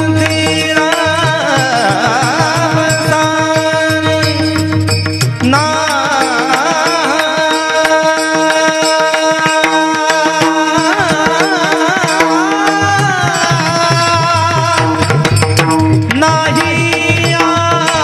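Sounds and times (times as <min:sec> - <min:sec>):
tabla playing: 0:00.0 - 0:18.0.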